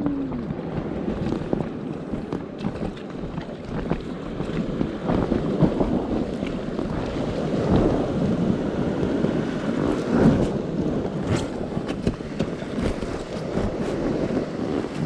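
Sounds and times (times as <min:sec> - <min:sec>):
water sloshing and splashing: 0:00.0 - 0:15.0
wind buffeting microphone: 0:00.0 - 0:15.0.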